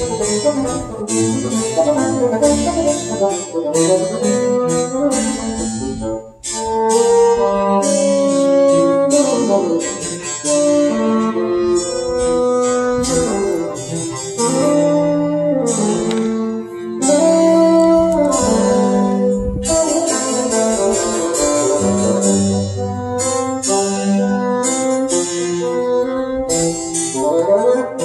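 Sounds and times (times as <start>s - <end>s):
instrumental music over loudspeakers: 0.0s - 28.0s.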